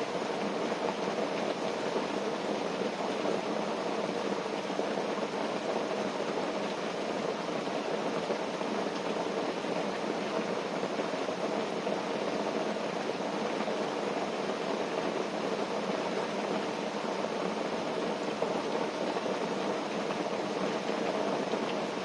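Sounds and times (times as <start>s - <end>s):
rain pattering on a tent: 0.0s - 22.0s.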